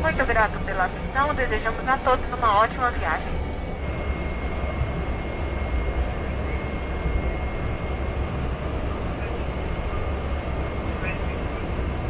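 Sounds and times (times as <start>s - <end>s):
high whine: 0.0s - 12.0s
turboprop engine drone: 0.0s - 12.0s.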